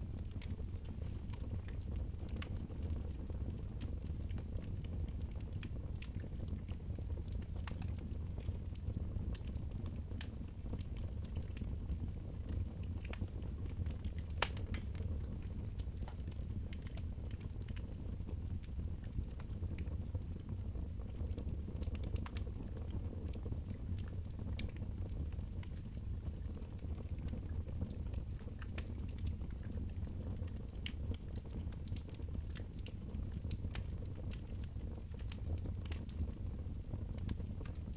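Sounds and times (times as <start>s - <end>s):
fire pops and snaps: 0.0s - 37.9s
wood fire crackling: 0.0s - 37.9s.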